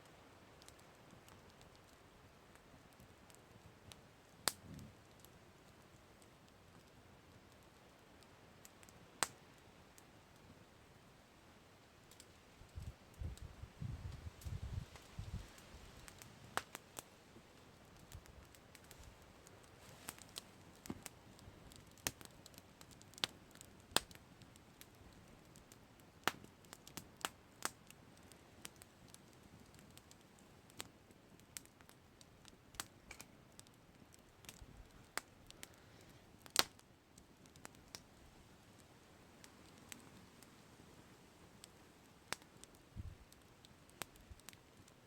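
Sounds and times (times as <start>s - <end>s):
faint steady hiss: 0.0s - 45.0s
burning wood popping and snapping: 0.4s - 10.5s, 12.0s - 45.0s.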